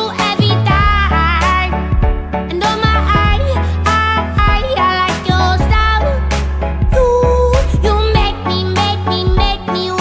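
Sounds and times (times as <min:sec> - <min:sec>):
pop music with vocals: 0:00.0 - 0:10.0.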